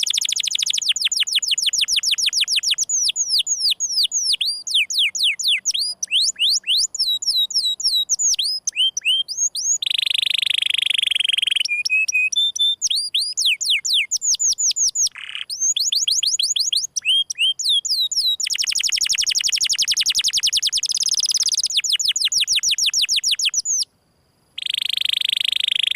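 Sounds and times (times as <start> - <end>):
canary singing: 0.0 - 23.9, 24.6 - 25.9.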